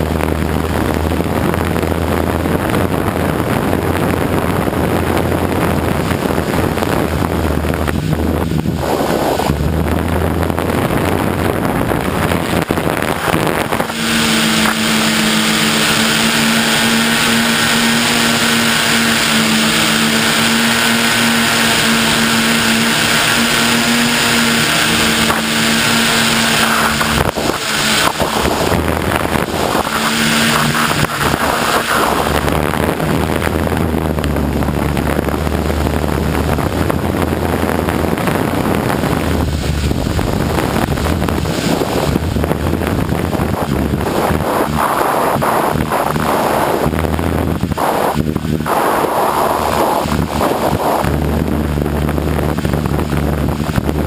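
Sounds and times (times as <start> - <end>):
drone motors humming: 0.0 - 54.0
wind noise on microphone: 0.0 - 54.0.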